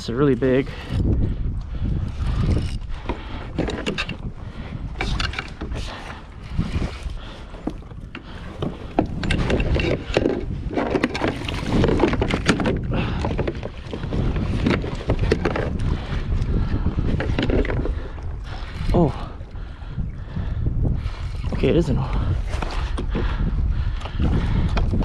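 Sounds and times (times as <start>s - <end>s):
water sloshing against kayak hull: 0.0s - 25.0s
wind buffeting microphone: 0.0s - 25.0s
fishing gear clicks and knocks: 0.2s - 19.3s, 24.0s - 25.0s.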